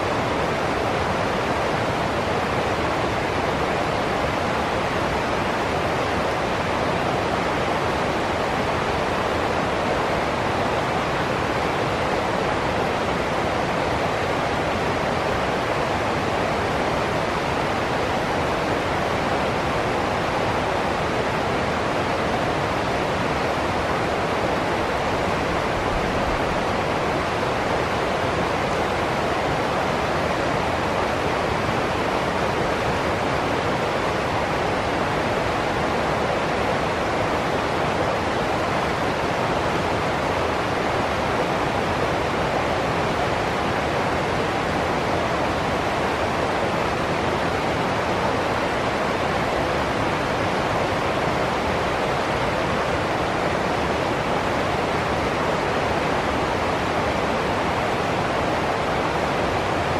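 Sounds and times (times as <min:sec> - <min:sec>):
stream rushing over rapids: 0:00.0 - 0:59.9.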